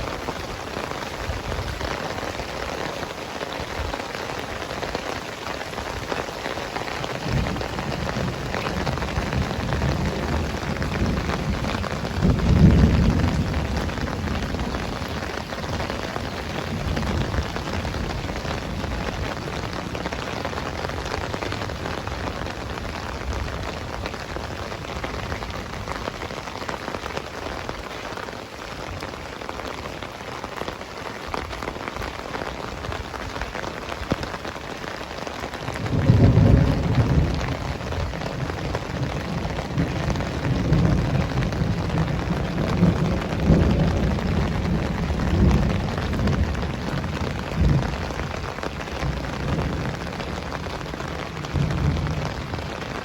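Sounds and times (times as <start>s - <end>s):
thunder rumbling: 0.0s - 26.8s, 35.5s - 53.0s
heavy rain falling: 0.0s - 53.0s.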